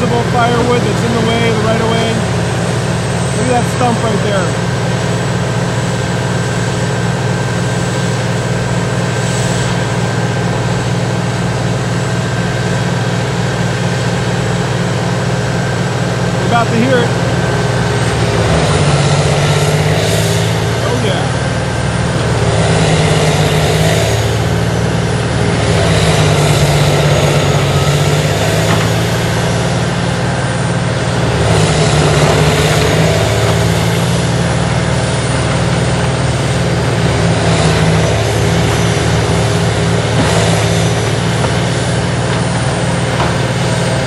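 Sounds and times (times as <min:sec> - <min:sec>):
grinder machine grinding wood: 0:00.0 - 0:44.0.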